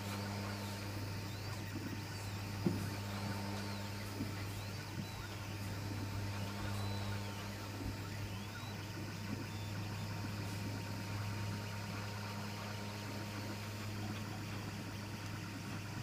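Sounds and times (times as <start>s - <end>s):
printer fans and motors humming: 0.0s - 16.0s
rising whine: 0.0s - 16.0s.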